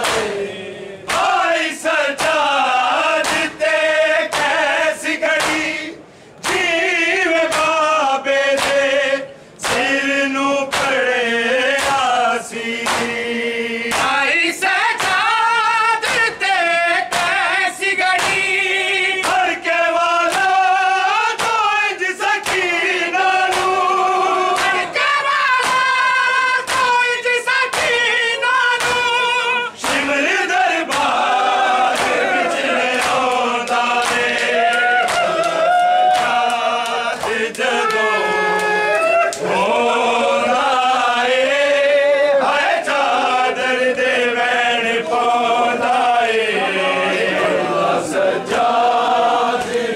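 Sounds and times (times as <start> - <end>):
men chanting a lament: 0.0 - 49.9.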